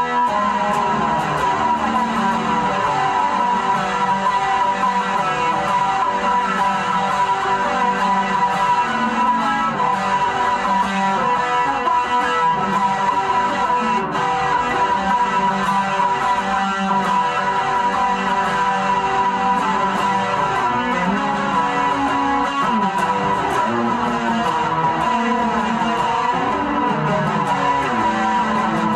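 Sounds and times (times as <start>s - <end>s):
guitar playing picked notes: 0.0s - 28.9s.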